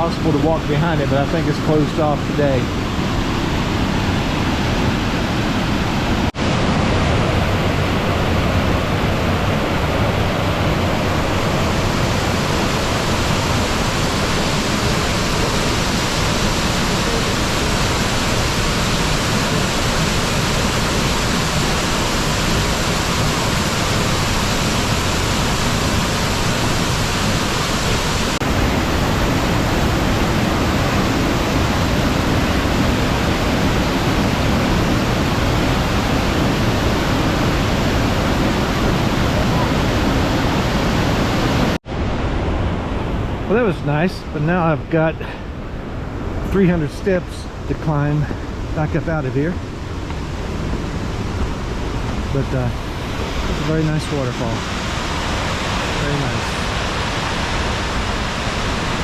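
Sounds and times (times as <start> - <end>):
waterfall roar: 0.0 - 59.0.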